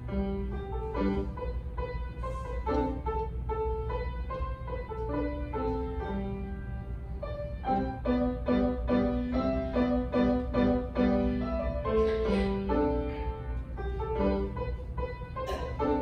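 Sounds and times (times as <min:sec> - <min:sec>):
grand piano playing: 0:00.0 - 0:16.0
steady low hum: 0:00.0 - 0:16.0.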